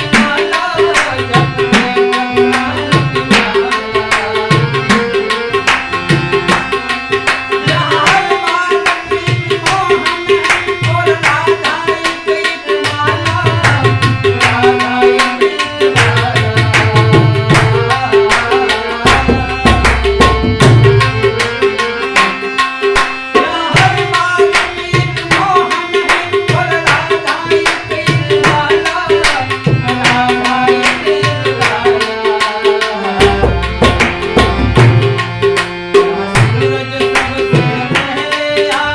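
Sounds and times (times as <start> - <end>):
harmonium melody: 0.0 - 38.9
tabla rhythm: 0.0 - 38.9.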